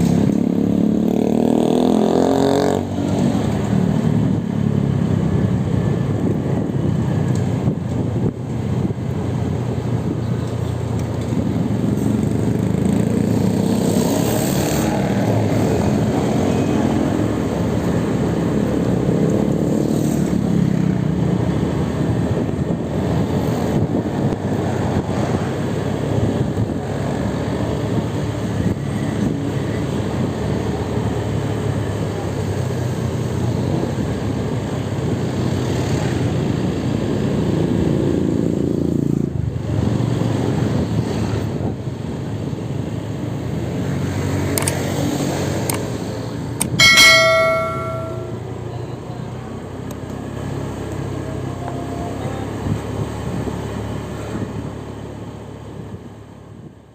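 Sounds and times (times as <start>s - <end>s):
road traffic noise: 0.0s - 56.9s
vehicles passing by: 0.0s - 56.9s.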